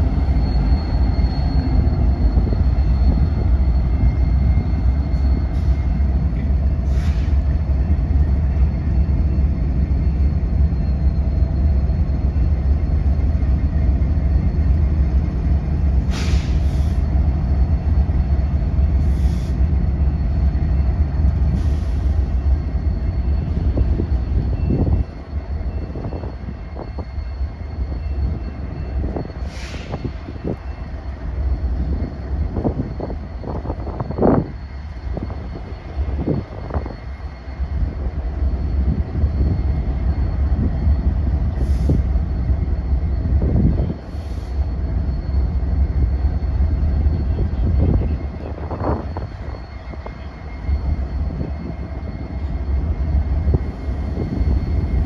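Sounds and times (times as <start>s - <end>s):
train cars clanking and squeaking: 0.0s - 55.0s
train rumbling on track: 0.0s - 55.0s.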